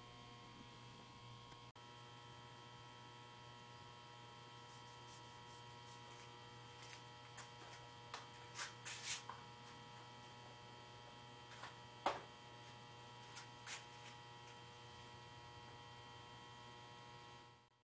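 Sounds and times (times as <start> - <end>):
faint electrical hum: 0.0 - 17.7.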